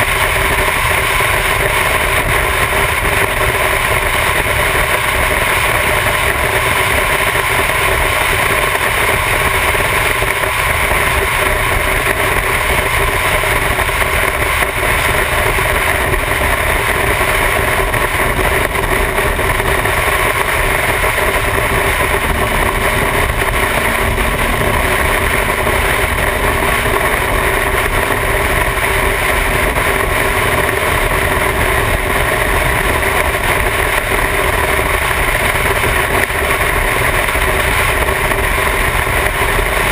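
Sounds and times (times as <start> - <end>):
motorcycle engine drone: 0.0 - 39.9
wind noise on microphone: 0.0 - 39.9.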